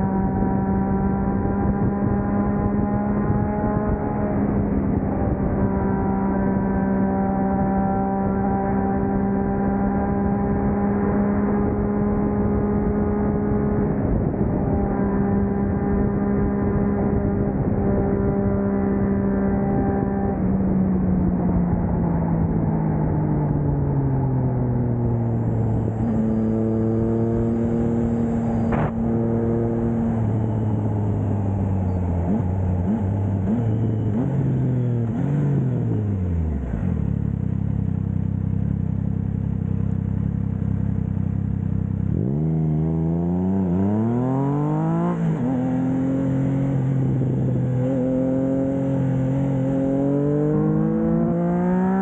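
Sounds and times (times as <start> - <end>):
motorcycle engine revving and idling: 0.0 - 52.0.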